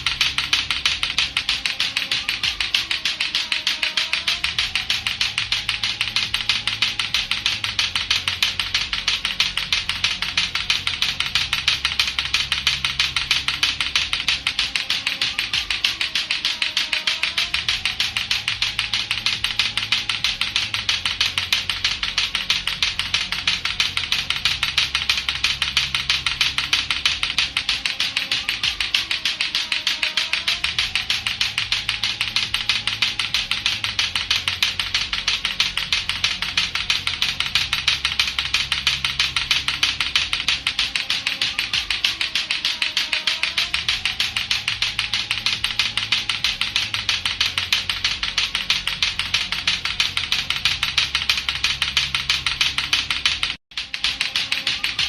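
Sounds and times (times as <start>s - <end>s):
clacker balls clacking: 0.0s - 55.0s.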